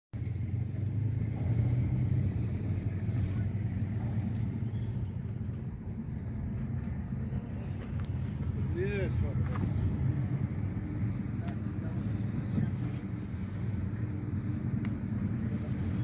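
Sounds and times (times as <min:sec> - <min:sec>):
car engine and road noise: 0:00.1 - 0:16.0.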